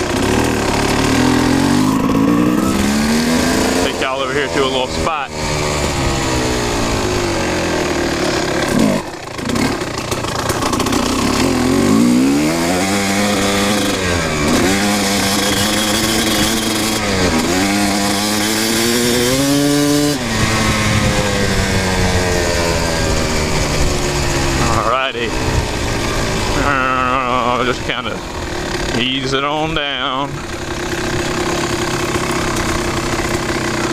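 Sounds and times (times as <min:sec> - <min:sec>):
dirt bike engine accelerating: 0:00.0 - 0:33.9.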